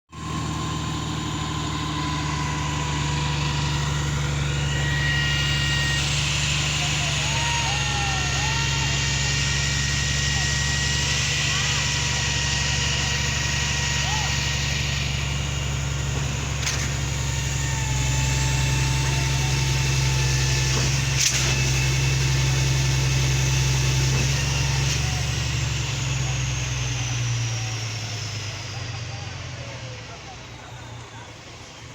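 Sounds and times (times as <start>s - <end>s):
diesel engine running: 0.1s - 31.9s
faint high whine: 0.2s - 31.9s.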